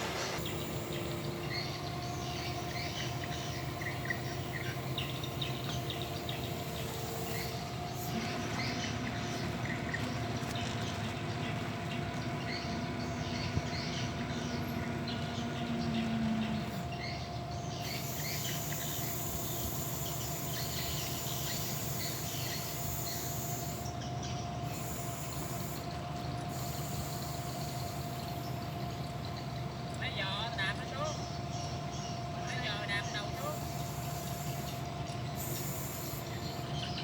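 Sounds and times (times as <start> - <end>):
low hum: 0.0 - 30.0
excavator running with whine: 0.0 - 37.0.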